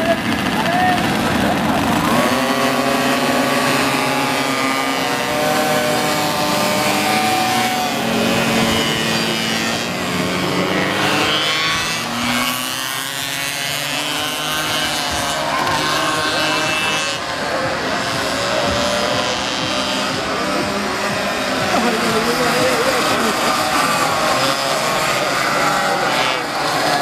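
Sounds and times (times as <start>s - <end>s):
small two-stroke engines revving: 0.0s - 27.0s.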